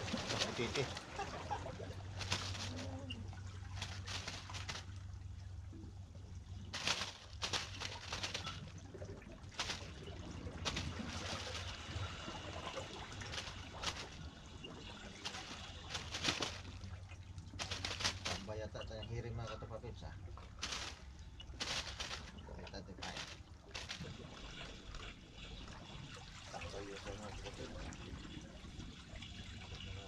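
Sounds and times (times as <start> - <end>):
low hum: 0.0 - 30.0
small waves lapping on rocks: 0.0 - 30.0.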